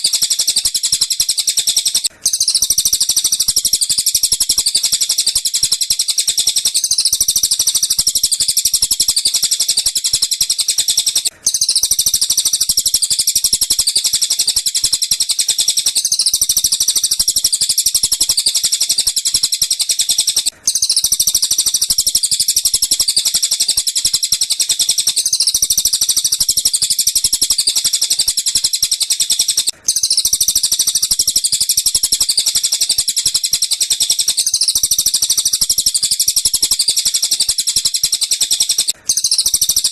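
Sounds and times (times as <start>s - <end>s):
high-pitched bird chirping and trilling: 0.0s - 39.9s.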